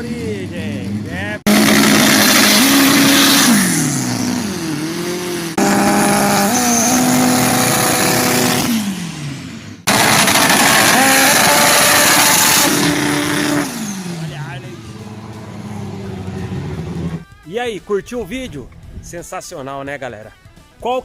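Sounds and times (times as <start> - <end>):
drag car engines revving: 0.0 - 17.2.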